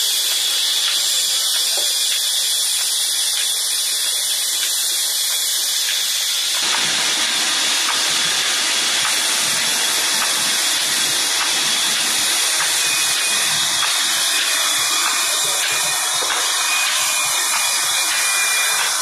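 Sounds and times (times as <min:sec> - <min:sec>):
band saw hissing whir: 0:00.0 - 0:19.0.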